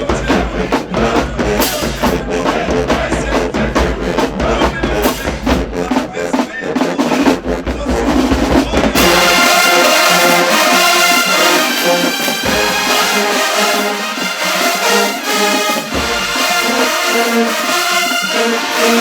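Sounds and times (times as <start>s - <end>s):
brass section chords: 0.0s - 19.0s
marching drumline beat: 0.0s - 19.0s.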